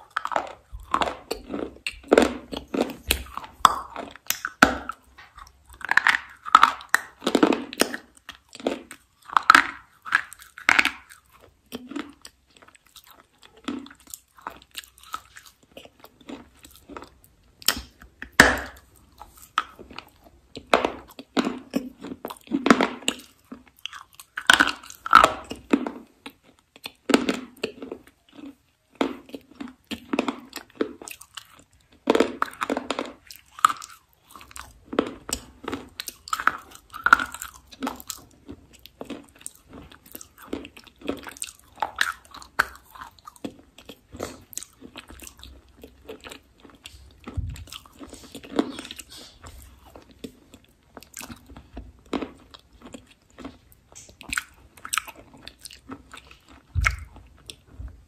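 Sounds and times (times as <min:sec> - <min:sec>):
close chewing and crunching: 0:00.0 - 0:58.0.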